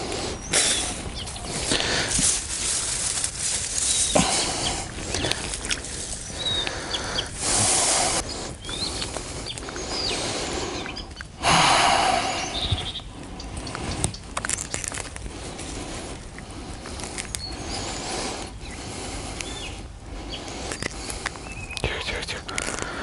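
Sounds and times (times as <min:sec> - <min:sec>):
rough rustling noise: 0:00.0 - 0:10.7, 0:12.6 - 0:21.7
small birds chirping: 0:00.0 - 0:23.0.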